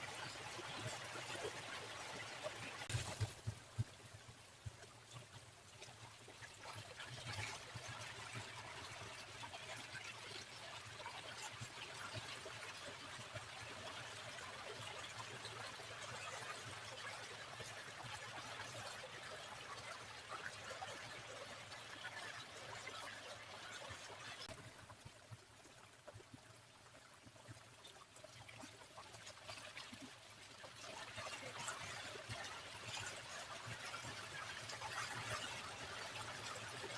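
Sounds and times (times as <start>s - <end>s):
stream water trickling: 0.0s - 36.9s.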